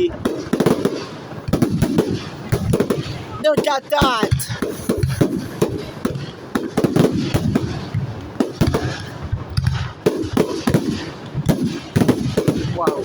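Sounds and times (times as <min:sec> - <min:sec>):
fireworks bangs and crackles: 0:00.0 - 0:13.0
fireworks rumble: 0:00.0 - 0:13.0.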